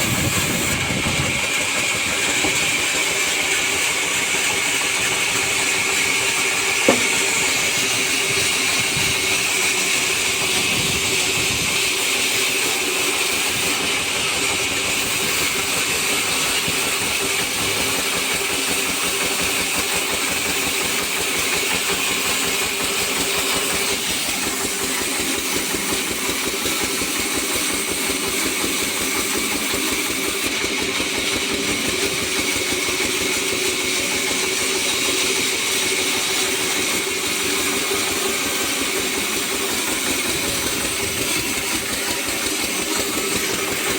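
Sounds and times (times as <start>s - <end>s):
sawmill saw cutting wood: 0.0s - 43.9s.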